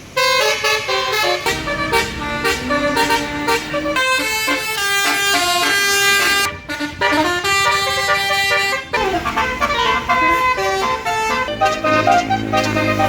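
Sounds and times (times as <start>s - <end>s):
musical air horn playing a tune: 0.1s - 13.0s
low engine hum: 0.8s - 13.0s.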